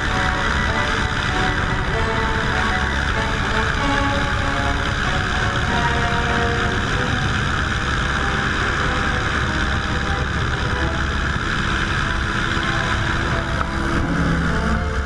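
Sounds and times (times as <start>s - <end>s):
biplane engine running: 0.0s - 15.0s.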